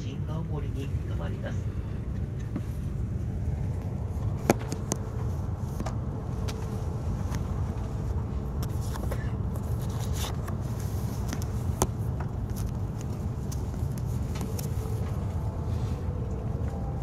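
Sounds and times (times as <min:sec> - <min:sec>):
train rumble inside carriage: 0:00.0 - 0:17.0.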